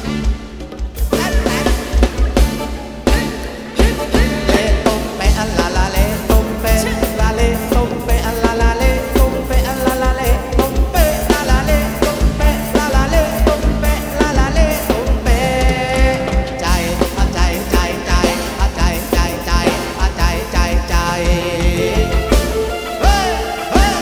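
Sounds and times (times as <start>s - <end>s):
band playing upbeat dance music: 0.0s - 24.0s.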